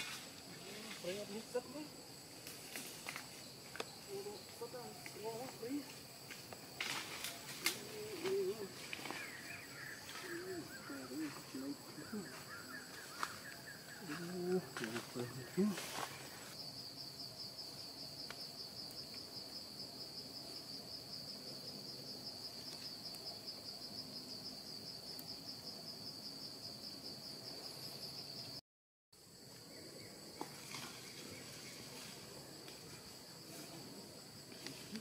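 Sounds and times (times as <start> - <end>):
insect trilling: 0.0 - 28.6.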